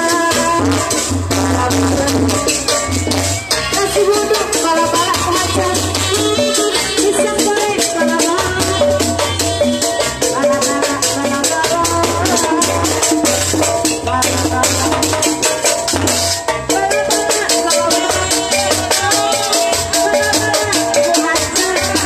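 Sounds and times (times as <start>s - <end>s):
pulsing drum beat: 0.0s - 22.0s
rattling jingle percussion: 0.0s - 22.0s.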